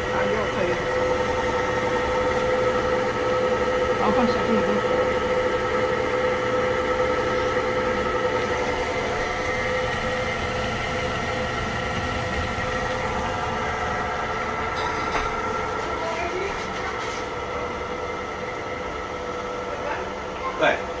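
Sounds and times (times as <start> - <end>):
fan whirring: 0.0 - 21.0
microwave oven humming: 0.0 - 21.0.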